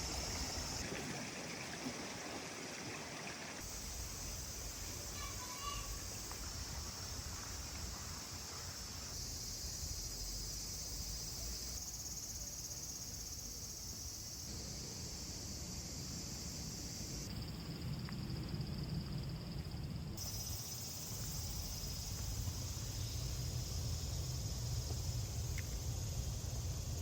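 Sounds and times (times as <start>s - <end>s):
high-pitched insect chorus: 0.0s - 0.8s, 3.6s - 27.0s.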